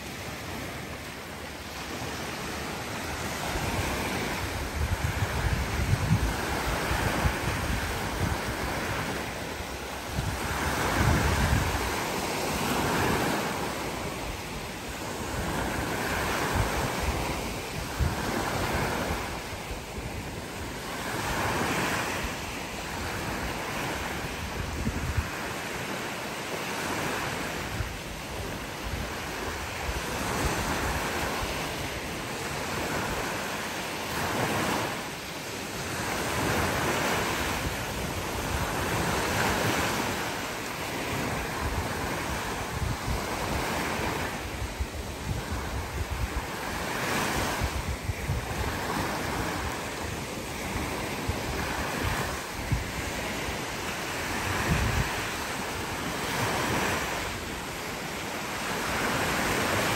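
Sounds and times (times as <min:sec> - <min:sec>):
small waves breaking on beach: 0:00.0 - 0:59.9
wind buffeting microphone: 0:01.7 - 0:26.0, 0:26.8 - 0:35.0, 0:35.7 - 0:57.9.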